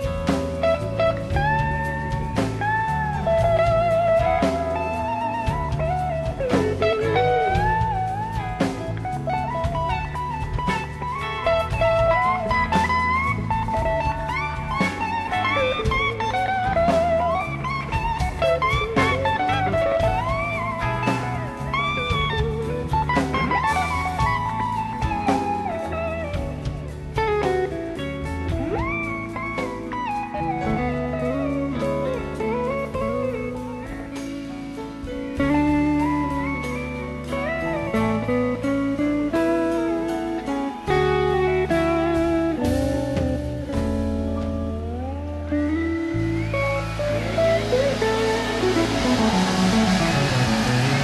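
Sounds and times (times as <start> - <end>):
bass guitar: 0.0 - 51.0
blues-rock band playing: 0.0 - 51.0
drum kit: 0.0 - 51.0
electric guitar lead: 0.0 - 51.0.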